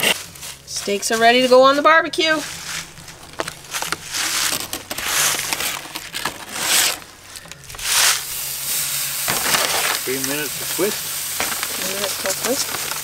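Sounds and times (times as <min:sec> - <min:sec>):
steaks sizzling on grill: 0:00.0 - 0:13.0.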